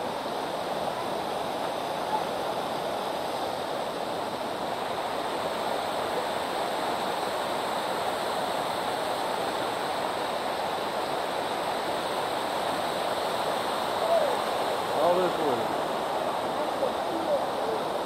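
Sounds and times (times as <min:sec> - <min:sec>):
waterfall pouring and splashing: 0:00.0 - 0:18.0.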